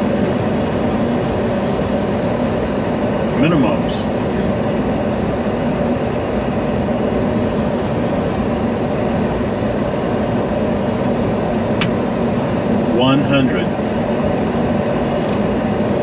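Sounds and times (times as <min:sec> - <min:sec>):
rush of airflow and engine: 0:00.0 - 0:16.0.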